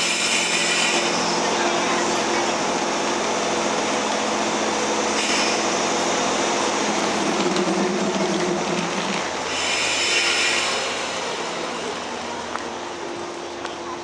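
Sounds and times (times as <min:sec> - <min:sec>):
electric train mechanical noise: 0:00.0 - 0:14.0.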